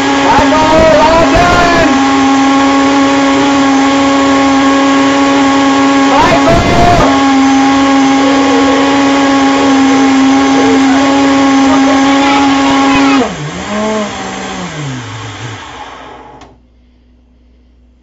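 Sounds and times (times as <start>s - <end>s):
blender motor whining: 0.0s - 16.6s.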